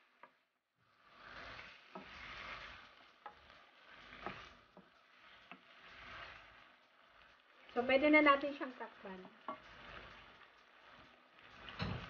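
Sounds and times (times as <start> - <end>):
food sizzling in pan: 0.0 - 12.0.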